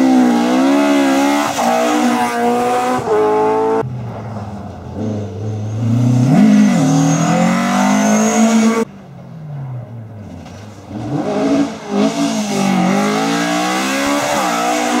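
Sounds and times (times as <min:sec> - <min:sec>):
rally car engine revving: 0:00.0 - 0:03.9, 0:04.9 - 0:08.9, 0:09.8 - 0:15.0.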